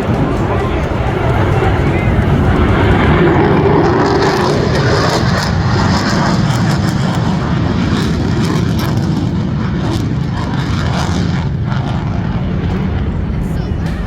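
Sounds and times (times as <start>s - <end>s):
jet aircraft flying overhead: 0.0s - 14.0s.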